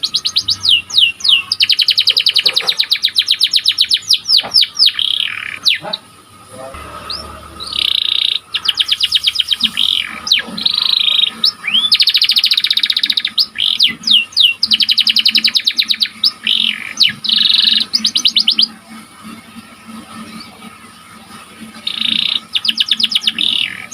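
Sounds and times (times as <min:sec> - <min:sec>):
canary singing trills: 0:00.0 - 0:23.9.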